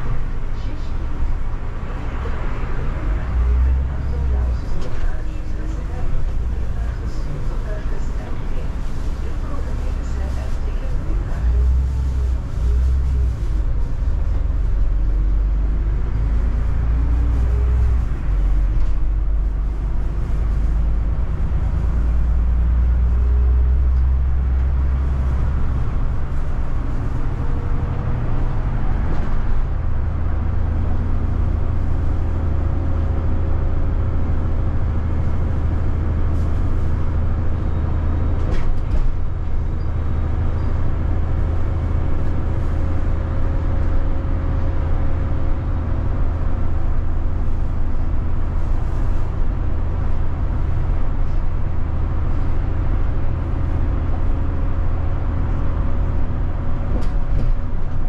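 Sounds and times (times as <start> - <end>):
bus engine rumble and whine: 0.0 - 58.0.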